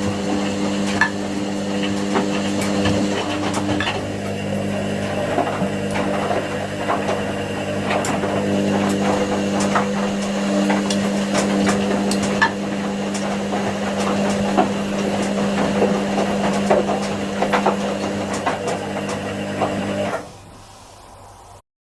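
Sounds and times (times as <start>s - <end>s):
laundry tumbling knocks: 0.0s - 20.2s
washing machine motor hum: 0.0s - 21.6s.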